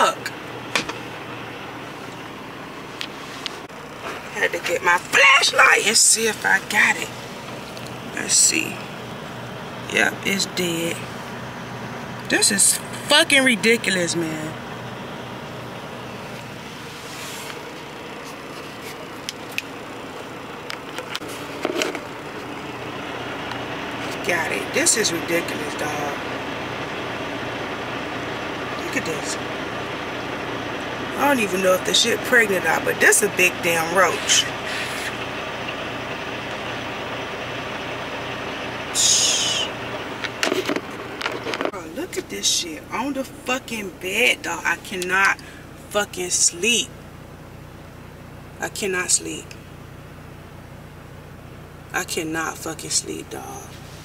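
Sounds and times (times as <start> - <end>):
diesel engine idling: 0.0 - 54.0
truck cab hum: 0.0 - 54.0.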